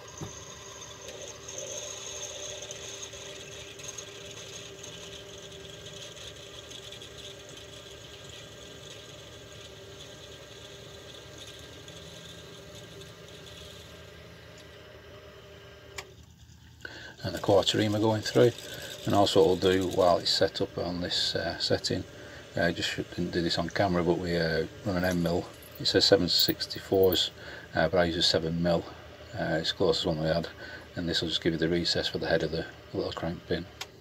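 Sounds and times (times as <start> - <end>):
milling machine whining: 0.0 - 34.0.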